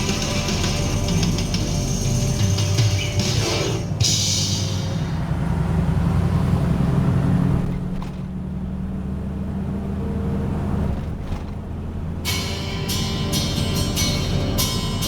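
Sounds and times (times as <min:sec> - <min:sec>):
road noise: 0:00.0 - 0:15.0
vehicle engine droning: 0:00.0 - 0:15.0.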